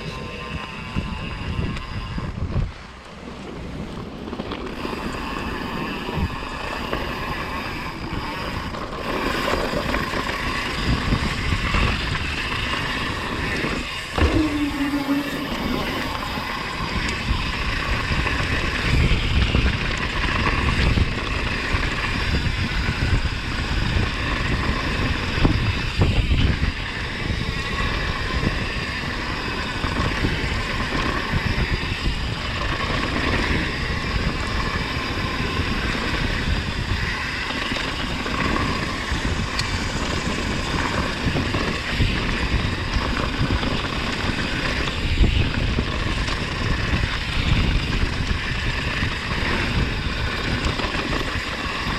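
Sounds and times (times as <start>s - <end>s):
bike rumbling on dirt trail: 0.0s - 51.9s
wind rushing over microphone: 0.0s - 51.9s.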